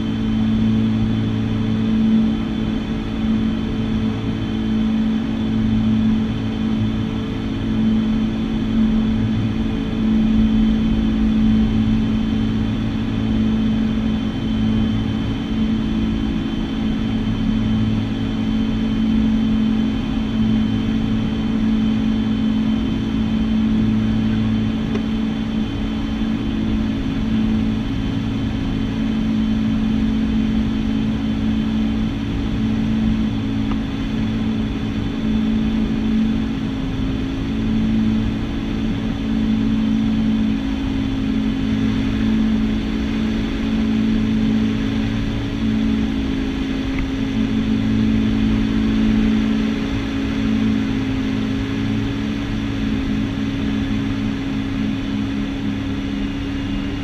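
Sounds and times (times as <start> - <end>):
turboprop cabin drone: 0.0 - 57.0.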